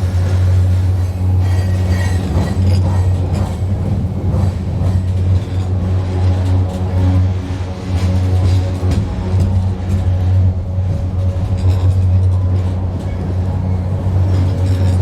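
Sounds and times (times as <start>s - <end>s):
steel bridge droning hum: 0.0s - 15.0s
train rumble and clicks: 0.0s - 15.0s.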